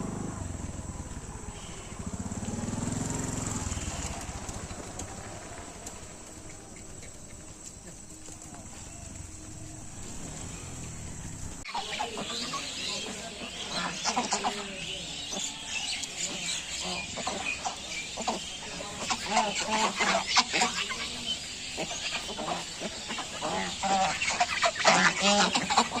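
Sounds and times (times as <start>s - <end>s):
chickens clucking: 0.1s - 26.0s.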